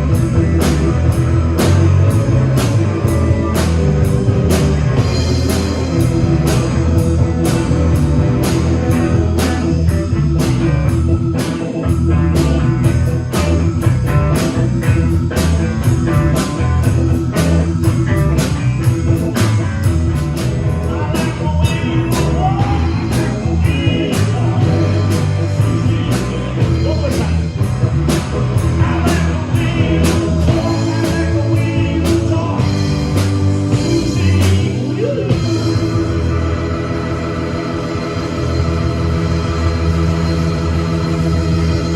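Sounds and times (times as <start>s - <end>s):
drum kit steady beat: 0.0s - 41.9s
electric guitar: 0.0s - 41.9s.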